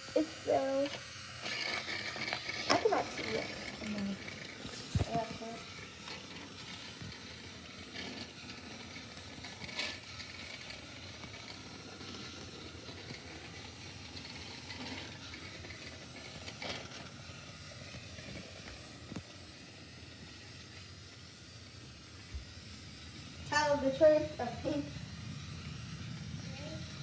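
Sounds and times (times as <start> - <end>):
toy train whirring: 0.0 - 27.0.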